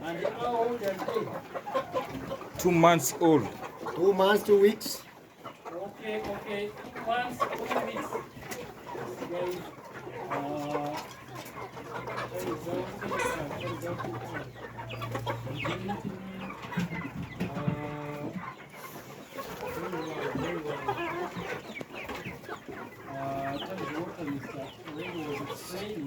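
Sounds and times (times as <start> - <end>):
chickens clucking: 0.0 - 26.0
drawn-out chicken call: 0.0 - 26.0.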